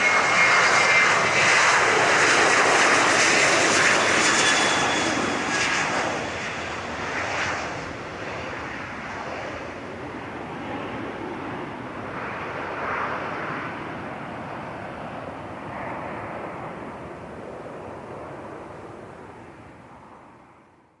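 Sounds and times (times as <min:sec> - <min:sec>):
jet engines roaring: 0:00.0 - 0:20.5.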